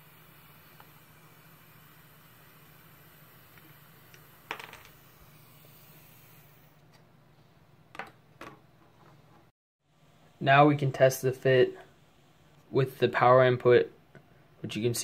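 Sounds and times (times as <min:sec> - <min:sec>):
faint steady hiss: 0:00.0 - 0:07.8, 0:09.9 - 0:15.0.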